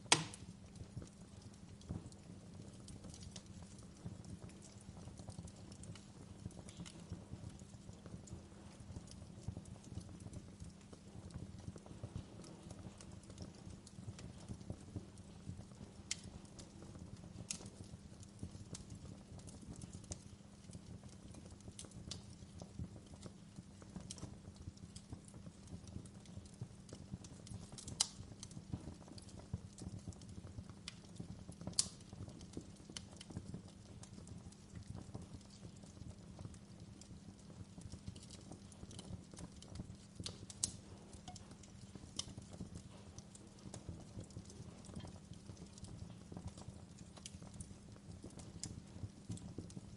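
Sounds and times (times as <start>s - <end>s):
fire crackling in a fireplace: 0.0s - 49.9s
sharp pops of fire: 0.0s - 49.9s.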